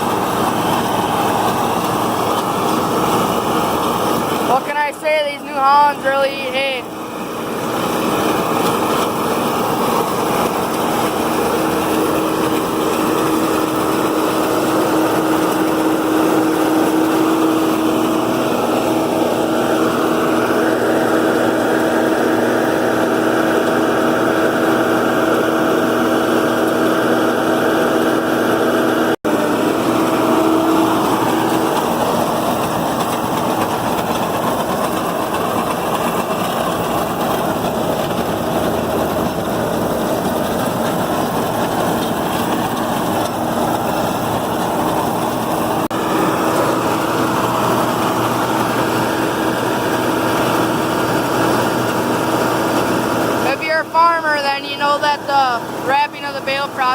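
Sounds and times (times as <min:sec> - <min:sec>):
baler rolling hay: 0:00.0 - 0:28.0, 0:29.5 - 0:53.4
tractor diesel engine under load: 0:00.0 - 0:56.9.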